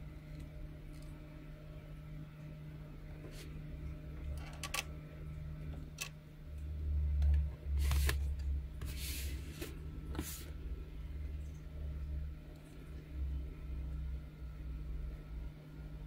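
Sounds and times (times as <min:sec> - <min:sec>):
steady low hum and rumble: 0:00.0 - 0:16.0.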